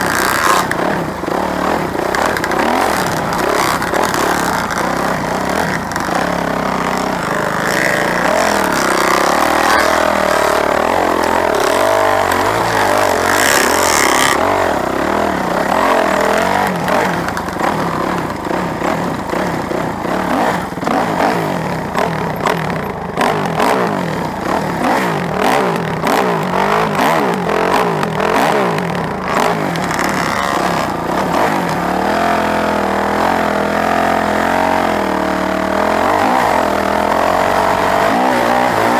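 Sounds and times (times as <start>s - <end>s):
vehicle engines revving: 0.0s - 38.9s.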